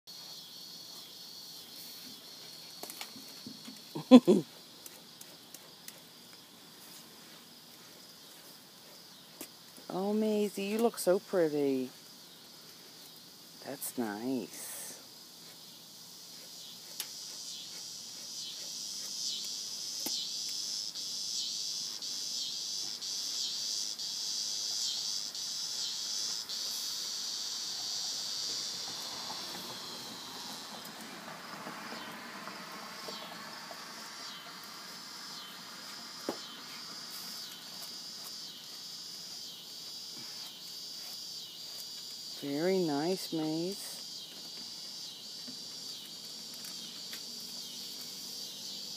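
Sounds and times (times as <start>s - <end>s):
insects chirring: 0.1s - 48.9s.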